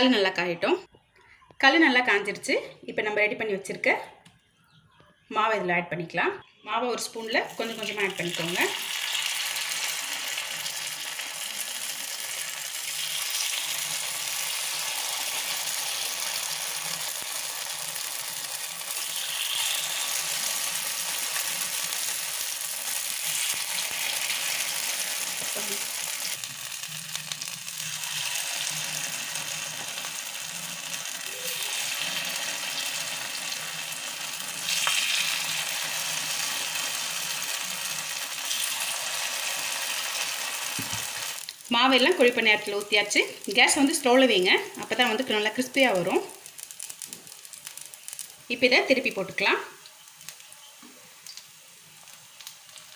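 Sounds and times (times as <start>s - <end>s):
hot oil sizzling: 7.0s - 52.9s.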